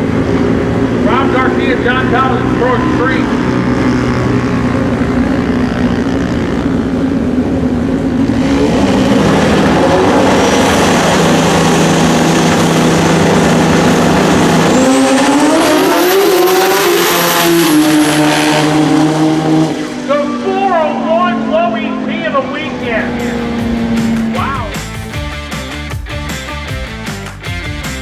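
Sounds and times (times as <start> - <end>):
motorcycle engines accelerating: 0.0 - 28.0.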